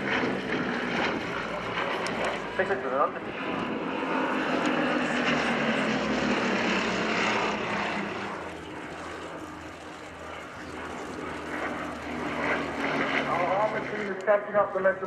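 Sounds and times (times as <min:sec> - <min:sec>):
propeller plane engine passing: 0:00.0 - 0:15.0.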